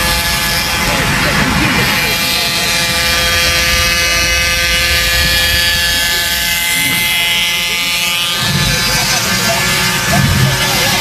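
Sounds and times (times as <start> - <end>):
moped engine buzzing: 0.0 - 11.0
road rumble: 0.0 - 11.0
wind: 0.0 - 11.0.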